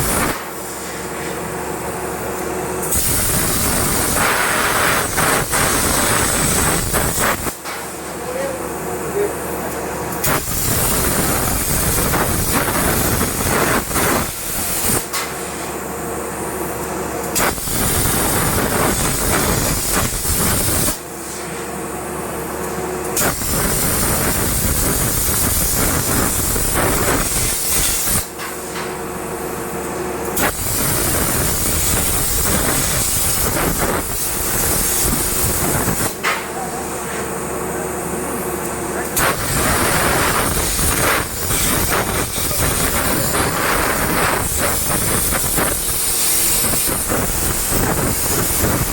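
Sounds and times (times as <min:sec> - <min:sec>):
plasma torch hissing: 0:00.0 - 0:01.4, 0:02.8 - 0:08.4, 0:10.2 - 0:15.8, 0:17.3 - 0:21.6, 0:23.2 - 0:29.0, 0:30.3 - 0:36.9, 0:39.0 - 0:48.9.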